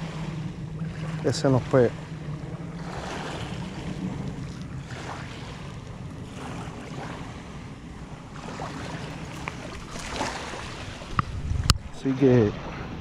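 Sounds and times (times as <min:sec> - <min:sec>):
low hum: 0:00.0 - 0:13.0
waves lapping at shoreline: 0:00.0 - 0:13.0
wind buffeting microphone: 0:00.0 - 0:13.0.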